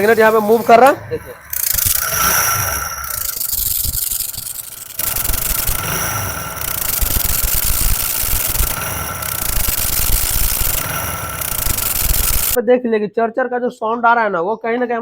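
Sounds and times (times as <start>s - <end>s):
motorcycle engine idling: 0.0s - 12.6s
rasping scrape from flywheel: 0.0s - 12.6s.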